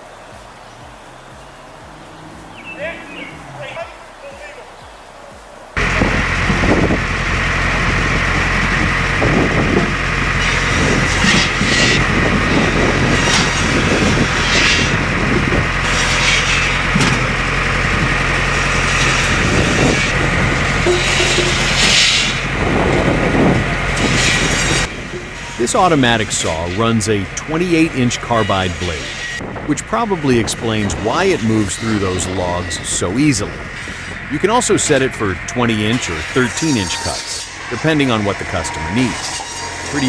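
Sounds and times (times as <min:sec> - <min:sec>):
engine running: 0:00.0 - 0:40.0
circular log saw running: 0:05.8 - 0:40.0.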